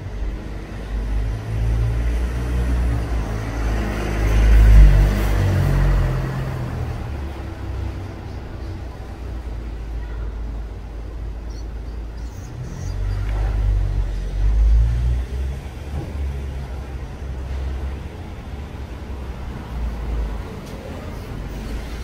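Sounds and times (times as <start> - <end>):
motor vehicle rumbling past: 0.0 - 9.9, 10.5 - 22.0.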